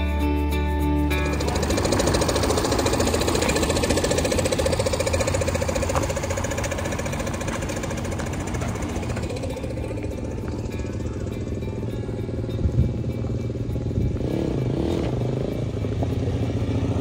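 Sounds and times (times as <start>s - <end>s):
tractor engine knocking: 1.1s - 17.0s.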